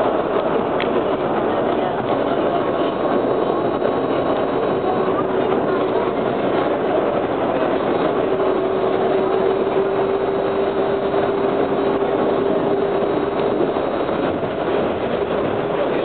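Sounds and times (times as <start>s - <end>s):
traction motor whine: 0.0s - 16.0s
wheels rolling on rail: 0.0s - 16.0s.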